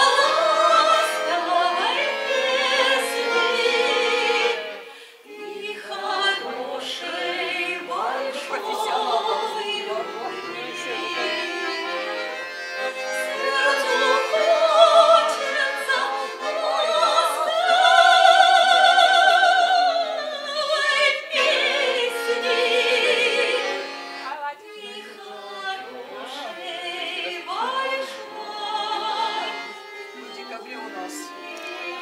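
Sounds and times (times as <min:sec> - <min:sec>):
woman singing with vibrato: 0:00.0 - 0:11.6, 0:12.8 - 0:32.0
instrumental accompaniment: 0:00.0 - 0:32.0.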